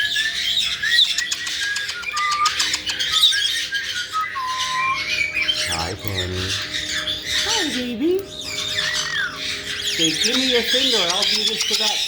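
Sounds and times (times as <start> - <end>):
parrots chirping and whistling: 0.0 - 12.0.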